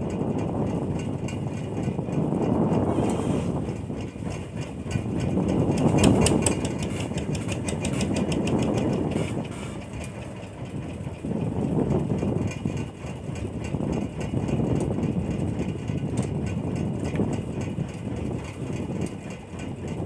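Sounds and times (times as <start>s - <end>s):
boat engine rumbling: 0.0s - 20.0s
rapid fine ticking: 0.1s - 20.0s.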